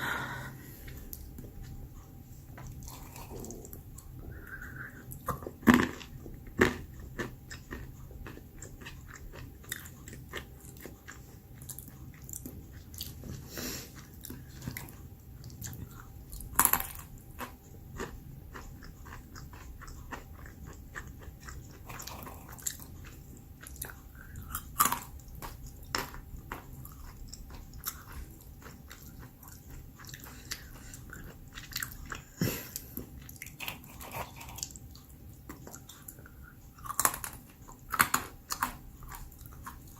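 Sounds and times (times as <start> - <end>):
soft chewing: 0.0 - 39.9.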